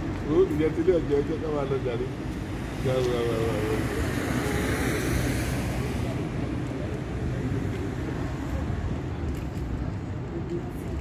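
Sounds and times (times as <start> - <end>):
low rumble of vehicle engines: 0.0 - 11.0.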